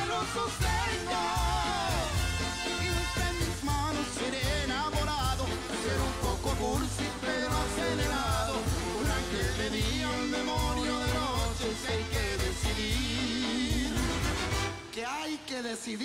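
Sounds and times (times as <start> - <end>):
bass beat: 0.0 - 14.6
live band playing: 0.0 - 15.1
person singing: 0.0 - 16.0.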